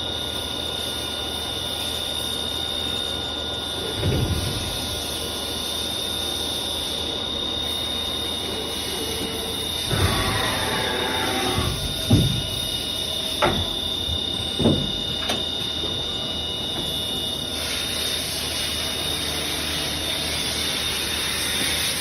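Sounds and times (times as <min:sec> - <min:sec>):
cnc machine high-pitched whine: 0:00.0 - 0:22.0.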